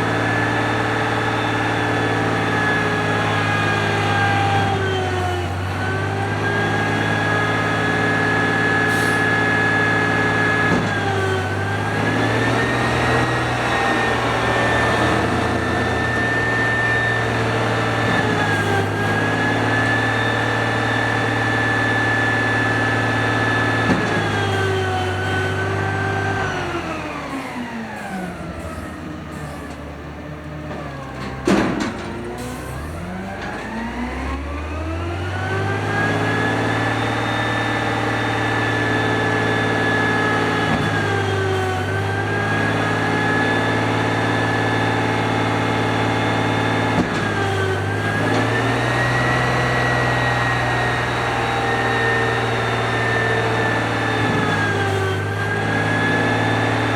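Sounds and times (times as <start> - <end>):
garbage truck engine revving: 0.0 - 56.9.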